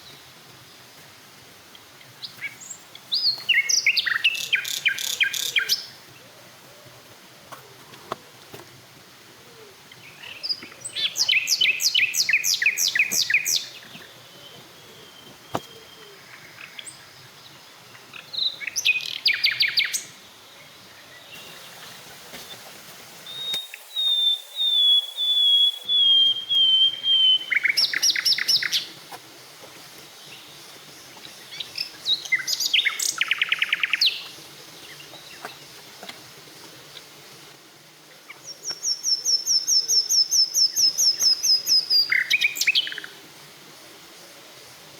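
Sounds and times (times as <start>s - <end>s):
wild birds singing: 1.6s - 8.6s, 9.2s - 44.9s.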